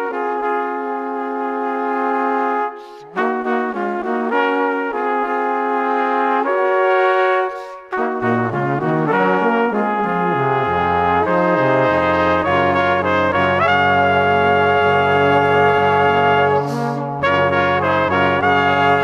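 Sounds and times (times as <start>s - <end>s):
low brass notes: 0.0s - 19.0s
trumpets and trombones chords: 0.0s - 19.0s.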